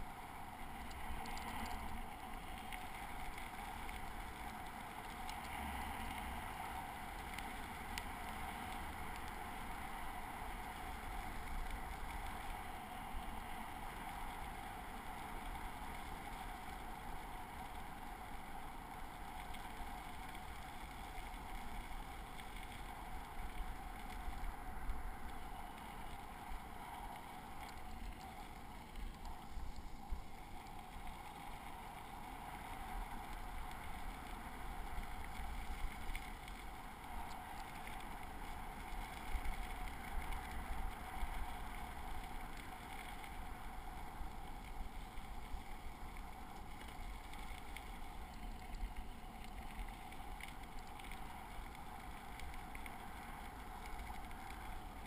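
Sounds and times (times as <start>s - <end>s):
bicycle rolling on pavement: 0.0s - 55.0s
faint clicks: 0.1s - 55.0s.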